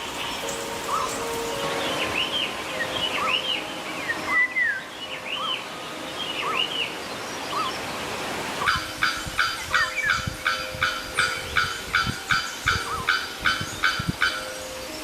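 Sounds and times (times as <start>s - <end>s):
bird calling: 0.0s - 5.7s, 6.3s - 8.0s, 8.6s - 15.0s
background hiss: 0.0s - 15.0s.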